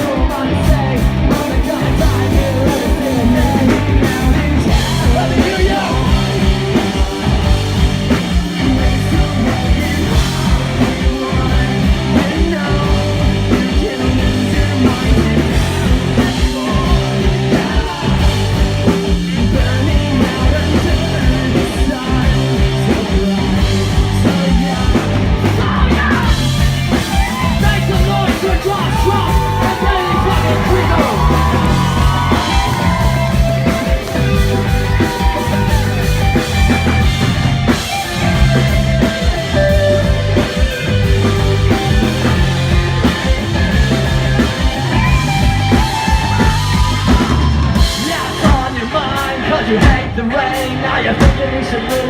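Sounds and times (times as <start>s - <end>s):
person singing: 0.0s - 52.0s
punk rock band playing live: 0.0s - 52.0s.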